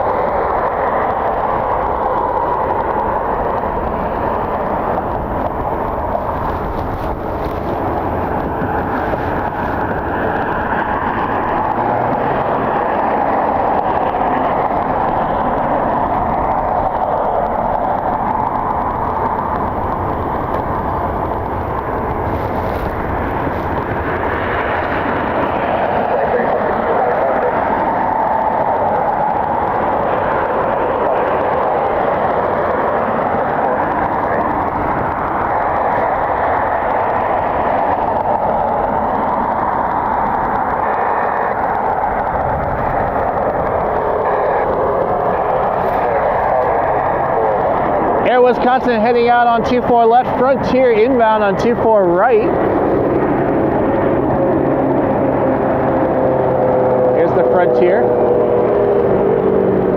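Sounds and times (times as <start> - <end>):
jet engine rush: 0.0 - 59.9.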